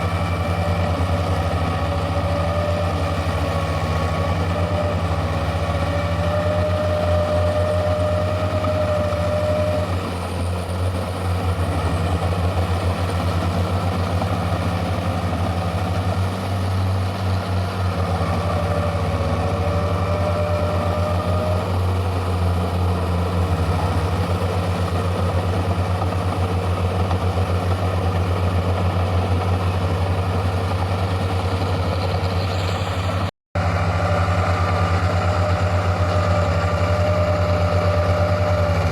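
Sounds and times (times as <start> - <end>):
tractor engines chugging: 0.0 - 38.9.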